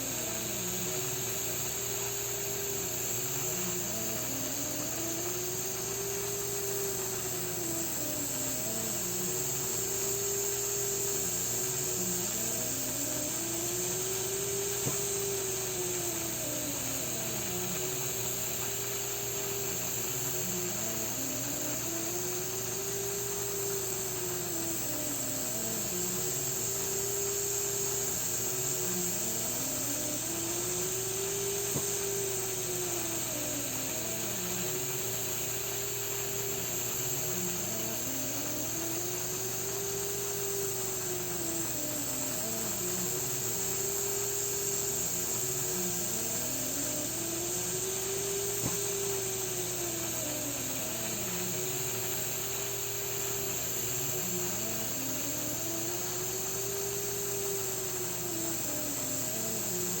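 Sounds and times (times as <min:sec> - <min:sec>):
constant hum: 0:00.0 - 1:00.0
machine whine rising and falling: 0:00.0 - 1:00.0.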